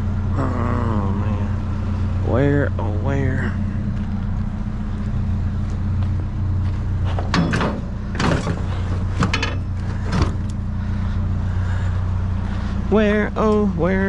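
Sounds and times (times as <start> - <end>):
truck engine and road hum: 0.0 - 14.0.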